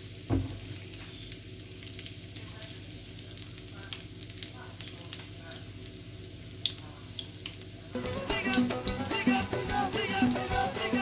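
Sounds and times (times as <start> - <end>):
garlic sizzling in oil: 0.0 - 11.0
oil crackles and pops: 0.0 - 11.0.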